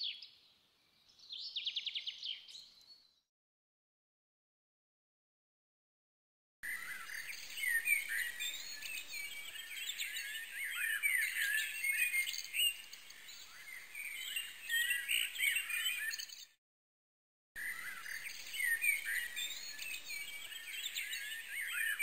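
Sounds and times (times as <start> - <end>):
small birds chirping: 0.0 - 3.3, 6.6 - 16.6, 17.6 - 22.0.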